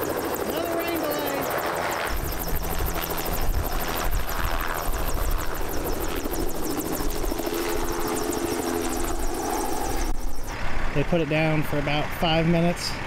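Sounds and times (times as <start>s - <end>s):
helicopter engine running: 0.0s - 11.0s
helicopter rotor beating: 0.0s - 12.6s.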